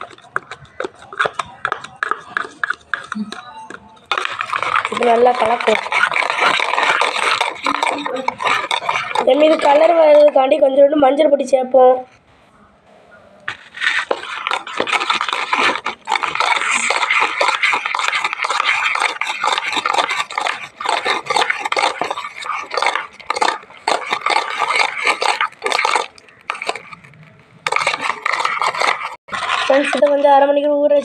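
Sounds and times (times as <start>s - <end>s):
spoon stirring wet mixture: 0.0s - 12.2s, 13.4s - 31.0s.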